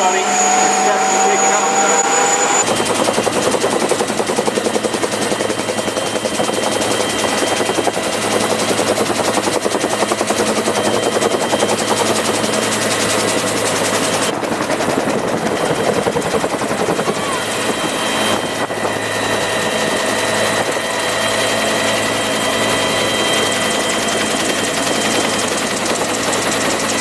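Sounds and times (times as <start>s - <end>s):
helicopter rotor chopping: 0.0s - 27.0s.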